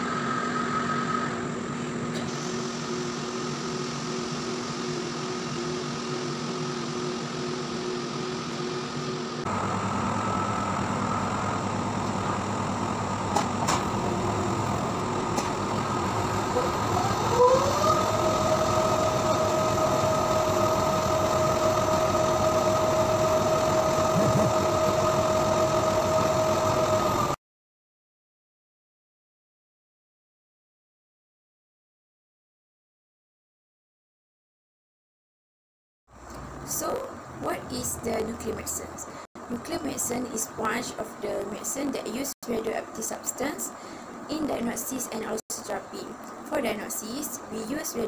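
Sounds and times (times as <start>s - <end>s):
scanner gantry high whine: 0.0s - 27.4s, 36.2s - 48.0s
scanner mechanical hum: 0.0s - 27.4s, 36.2s - 48.0s.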